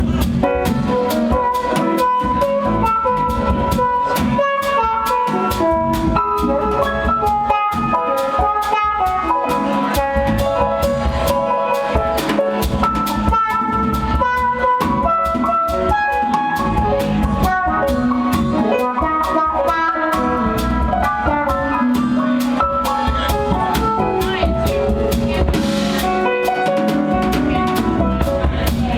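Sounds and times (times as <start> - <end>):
drum kit beat: 0.0 - 28.9
jazz band playing: 0.0 - 28.9
melodic lead line: 0.0 - 28.9.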